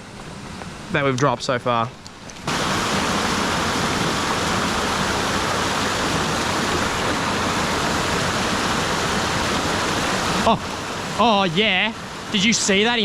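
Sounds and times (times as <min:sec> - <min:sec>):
water rushing over rocks: 0:02.4 - 0:13.0.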